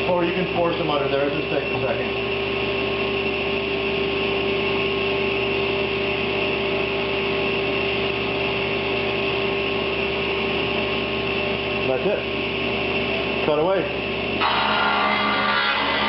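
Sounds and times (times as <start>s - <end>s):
table saw humming: 0.0s - 16.0s.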